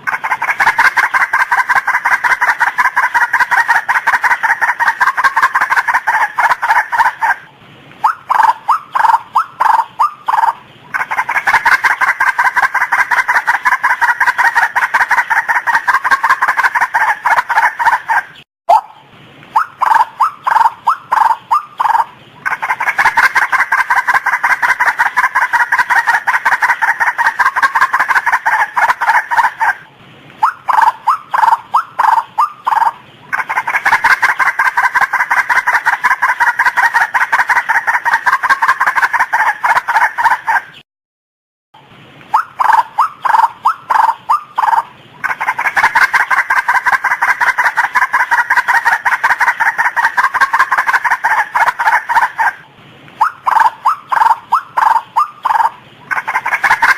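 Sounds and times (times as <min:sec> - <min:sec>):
waterhen croaking calls: 0:00.0 - 0:40.8, 0:42.2 - 0:56.9.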